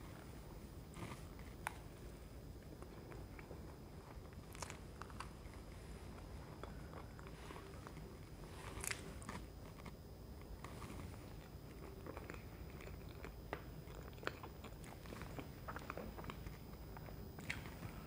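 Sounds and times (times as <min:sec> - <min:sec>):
wet chewing and mouth sounds: 0:00.8 - 0:18.0.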